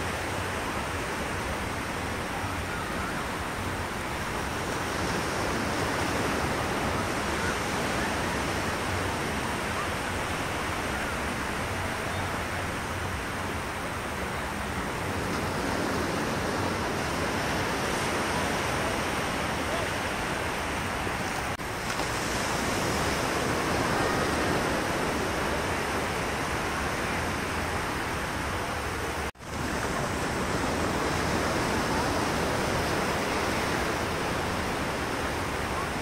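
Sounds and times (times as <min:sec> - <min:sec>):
surf waves washing on beach: 0:00.0 - 0:36.0.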